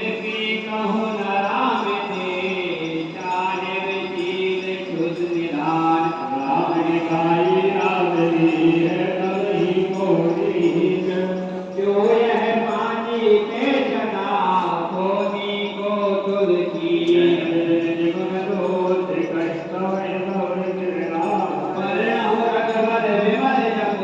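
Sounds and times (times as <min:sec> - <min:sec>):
person chanting: 0:00.0 - 0:24.0.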